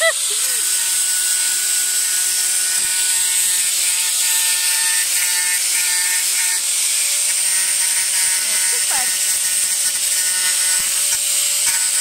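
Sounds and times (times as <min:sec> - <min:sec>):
angle grinder grinding metal: 0:00.0 - 0:12.0.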